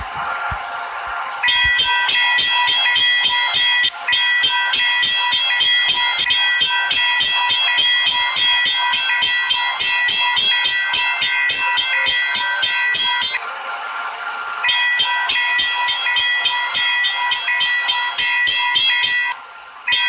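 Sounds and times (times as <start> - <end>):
railroad crossing bell ringing: 1.4 - 13.4, 14.6 - 20.0.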